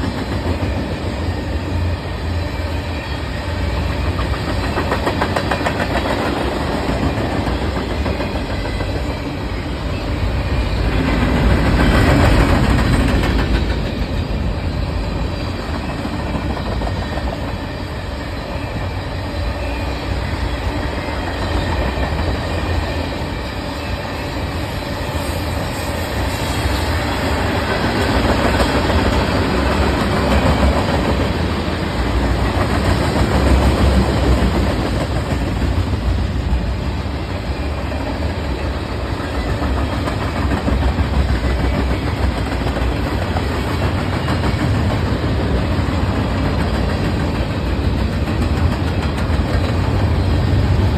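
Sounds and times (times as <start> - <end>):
train wheels clacking over rail joints: 3.6 - 23.2, 25.2 - 50.9.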